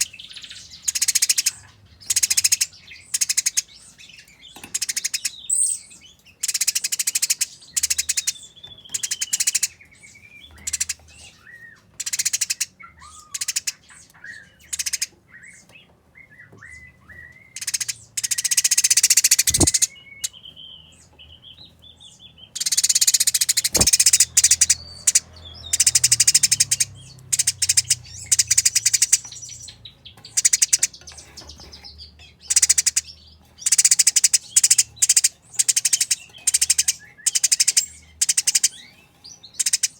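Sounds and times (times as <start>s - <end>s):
sparrows harsh chattering: 0.0s - 39.9s.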